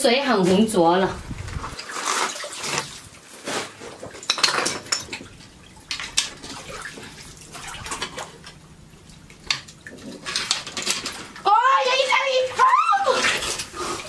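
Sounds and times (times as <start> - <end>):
shallow water splashing: 0.6 - 14.0.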